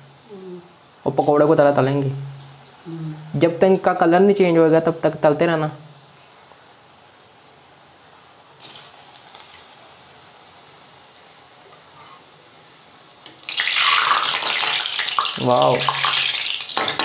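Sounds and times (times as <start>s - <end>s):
food deep-frying in hot oil: 0.8s - 2.9s, 3.5s - 17.0s.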